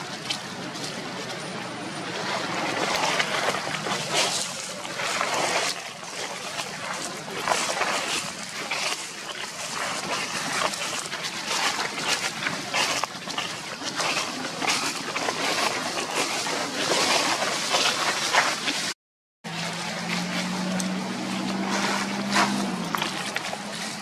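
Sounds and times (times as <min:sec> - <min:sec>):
dry leaves crackling underfoot: 0:00.0 - 0:18.9, 0:19.5 - 0:24.0.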